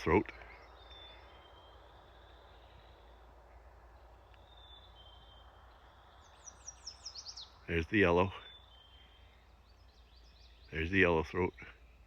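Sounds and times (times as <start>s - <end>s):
distant songbirds whistling: 0.0s - 12.0s.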